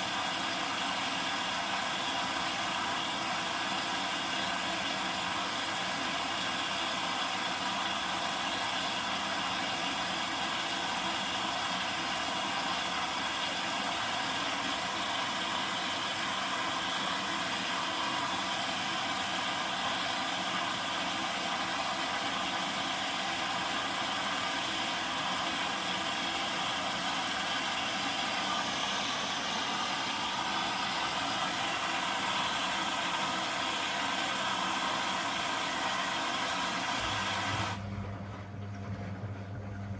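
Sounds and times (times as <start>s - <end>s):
washing machine humming and whirring: 0.0s - 39.9s.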